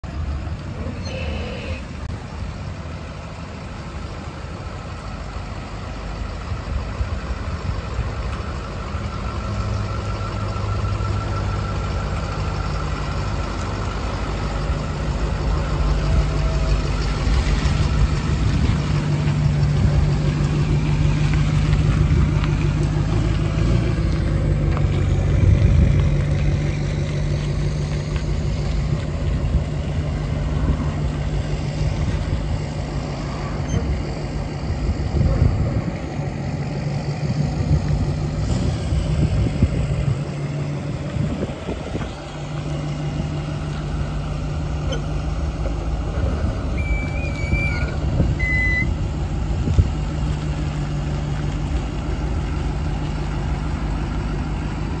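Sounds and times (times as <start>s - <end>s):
truck engine idling and driving: 0.0s - 55.0s.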